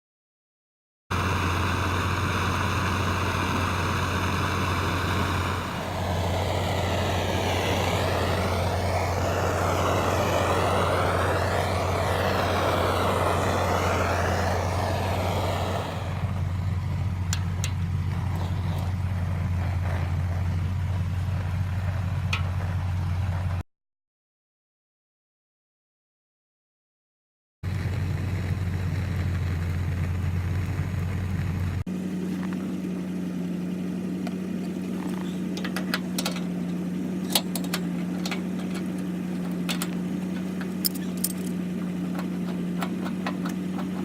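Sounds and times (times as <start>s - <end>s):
vehicle engine idling: 1.1s - 23.6s, 27.6s - 44.0s.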